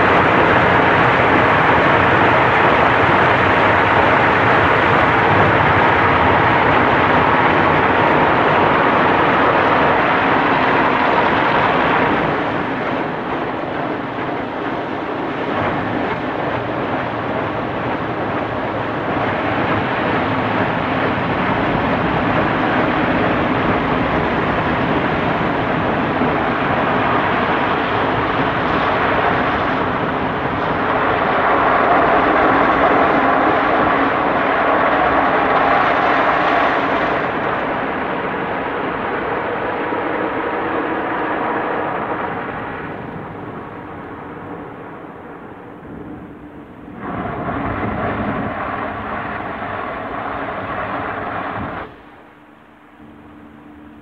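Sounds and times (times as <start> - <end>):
car wash machinery running: 0.0 - 54.0.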